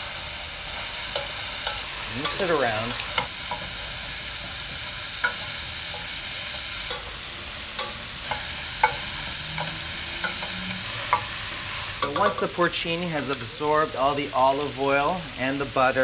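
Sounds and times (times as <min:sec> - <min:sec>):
mushrooms sizzling in oil: 0:00.0 - 0:16.0.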